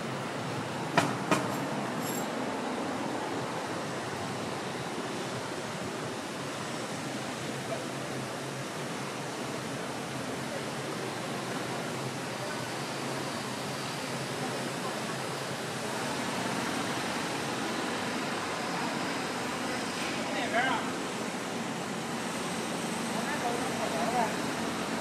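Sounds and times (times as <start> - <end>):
city street rushing hiss: 0.0 - 25.0
distant traffic hum: 0.0 - 25.0.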